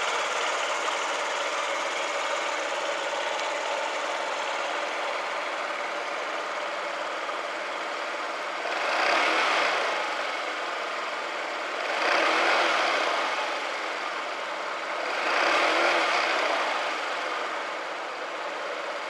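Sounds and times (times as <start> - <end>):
scooter engine idling and revving: 0.0 - 19.0.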